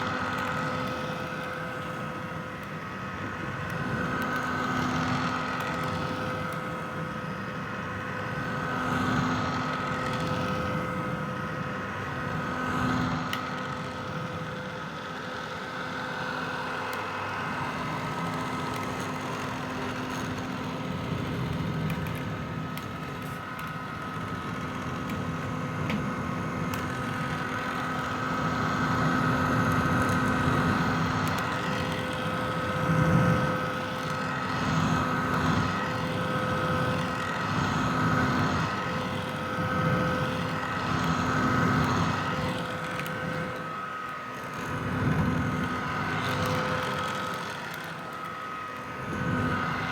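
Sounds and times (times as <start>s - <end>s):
hair dryer running: 0.0s - 49.9s.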